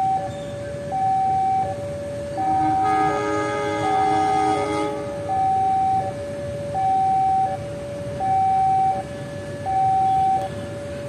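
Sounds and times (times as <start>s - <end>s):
two-tone crossing alarm: 0.0s - 10.6s.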